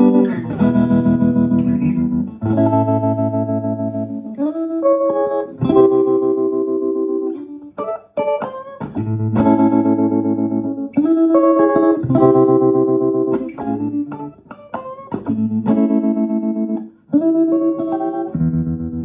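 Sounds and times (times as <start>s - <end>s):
electric guitar chords and runs: 0.0s - 19.0s.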